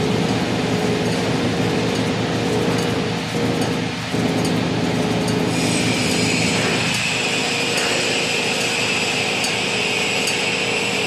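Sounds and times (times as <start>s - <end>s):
boring mill running with whine: 0.0s - 11.0s.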